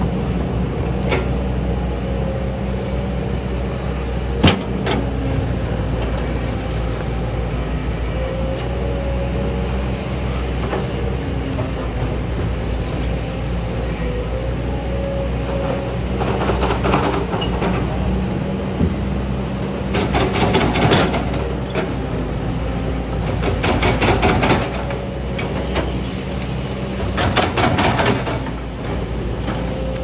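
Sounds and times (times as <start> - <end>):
excavator bucket clattering and scraping: 0.0 - 1.8, 4.2 - 7.4, 10.1 - 14.7, 15.3 - 30.0
diesel engine running: 0.0 - 30.0.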